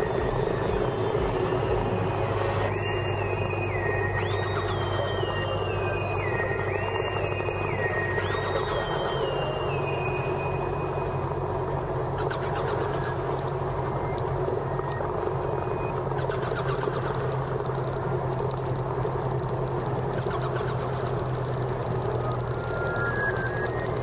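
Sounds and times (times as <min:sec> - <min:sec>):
propeller plane engine running: 0:00.0 - 0:24.0.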